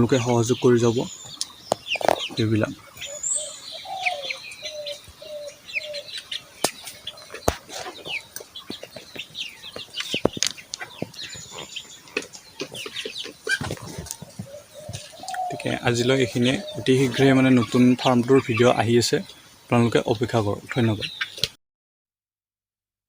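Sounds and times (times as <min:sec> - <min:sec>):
birds chirping and peeping: 0:00.0 - 0:21.6
hen clucking: 0:00.0 - 0:21.6.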